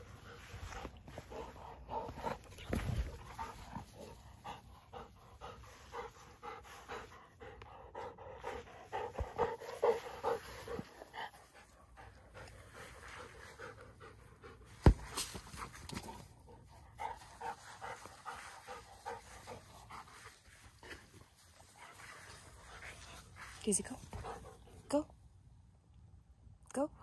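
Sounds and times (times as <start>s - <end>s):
puppy panting: 0.0s - 15.0s, 16.0s - 25.1s.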